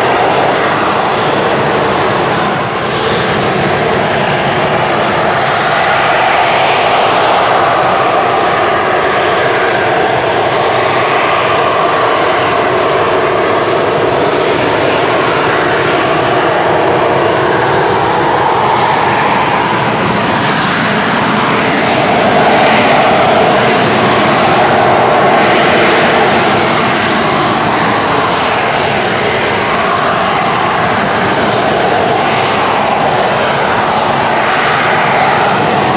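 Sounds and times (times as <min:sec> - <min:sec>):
jet engine rushing: 0:00.0 - 0:35.9.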